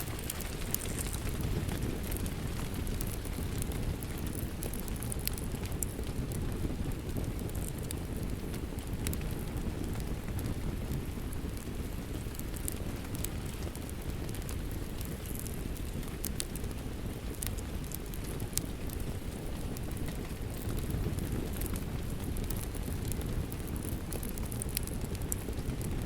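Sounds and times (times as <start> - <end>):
steady rain: 0.0 - 26.0
wood fire crackling: 0.0 - 26.0.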